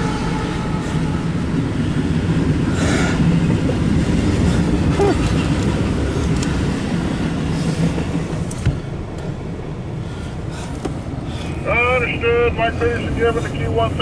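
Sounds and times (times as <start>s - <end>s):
freight train rumbling: 0.0s - 14.0s.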